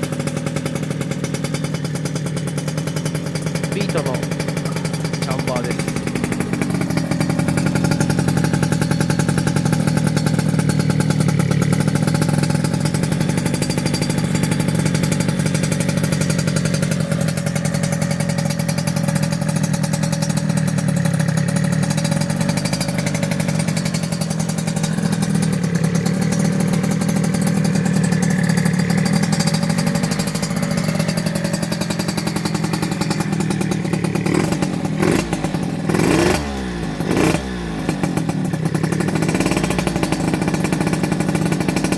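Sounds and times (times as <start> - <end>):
engine revving: 0.0 - 41.9
motorcycle engine idling: 0.0 - 41.9.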